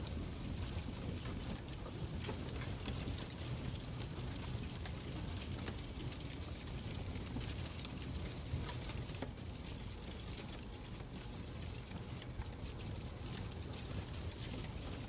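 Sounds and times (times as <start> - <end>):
fireplace crackling: 0.0 - 15.0
low fire rumble: 0.0 - 15.0.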